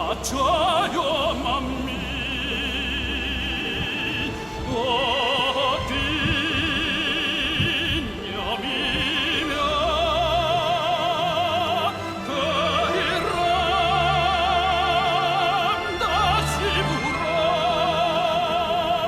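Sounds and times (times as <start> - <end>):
orchestral accompaniment: 0.0 - 19.0
tenor singing with vibrato: 0.0 - 19.0.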